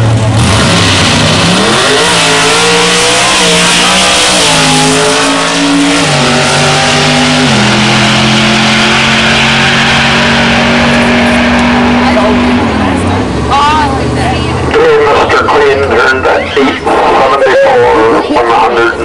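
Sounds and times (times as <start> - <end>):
racing car engine at full throttle: 0.0 - 19.0.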